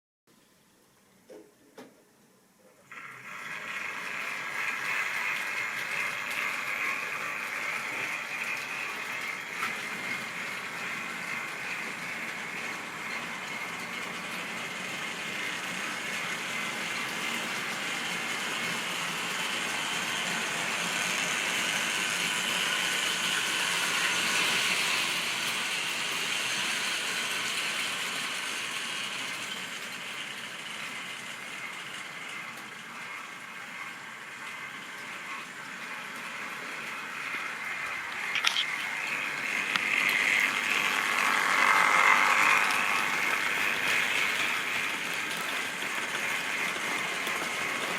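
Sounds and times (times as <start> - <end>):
model train whirring and rattling: 2.8 - 47.9.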